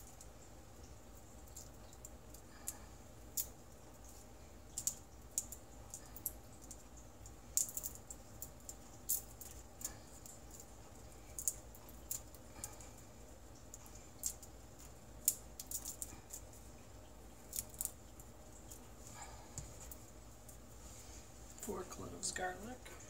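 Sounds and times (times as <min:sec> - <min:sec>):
garlic skins crackling: 0:01.0 - 0:22.8.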